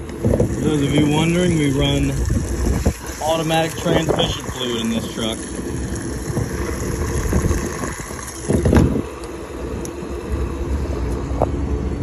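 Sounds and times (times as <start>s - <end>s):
fuel flowing from pump nozzle: 0.0s - 12.0s
loud burst of noise: 0.0s - 12.0s.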